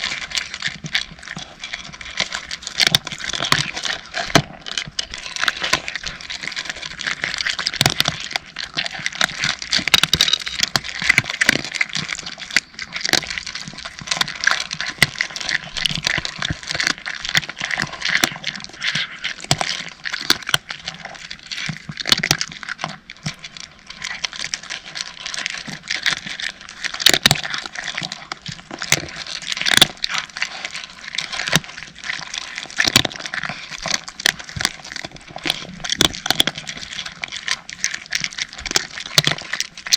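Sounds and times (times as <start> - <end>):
cats crunching dry kibble: 0.0 - 39.9.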